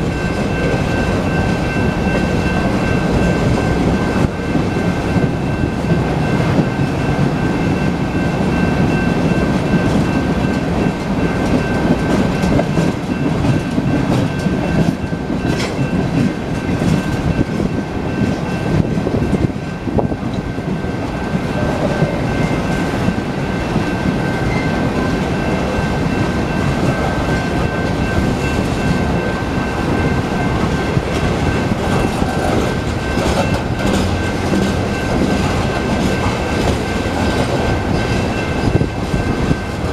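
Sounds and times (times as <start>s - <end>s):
freight train rolling past: 0.0s - 39.9s
wheels clickety-clack over rail joints: 0.0s - 39.9s.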